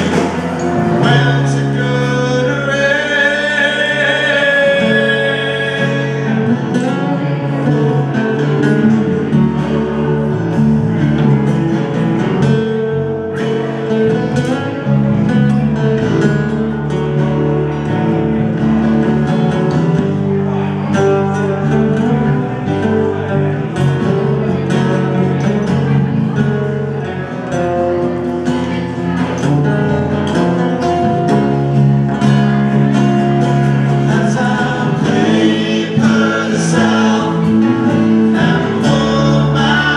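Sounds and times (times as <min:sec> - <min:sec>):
live band playing: 0:00.0 - 0:39.9
strummed guitar: 0:00.0 - 0:39.9.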